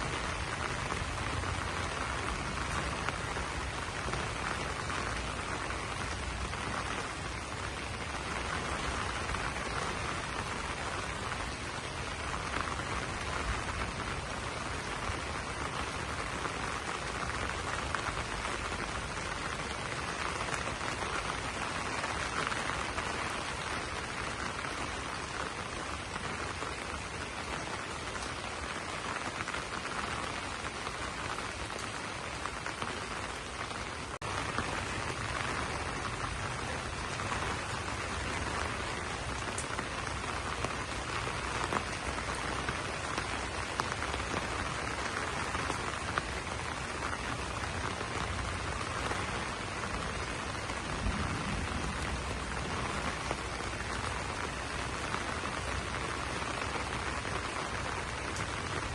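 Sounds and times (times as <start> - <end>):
rain on leaves: 0.0 - 58.9.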